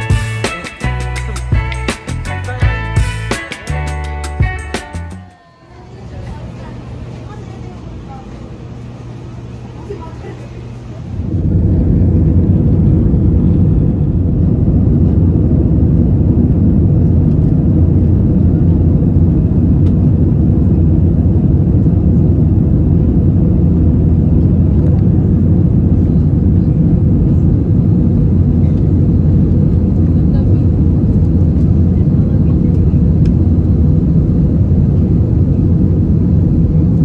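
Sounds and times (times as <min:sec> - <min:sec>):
jet cabin engine rumble: 0:05.2 - 0:37.0.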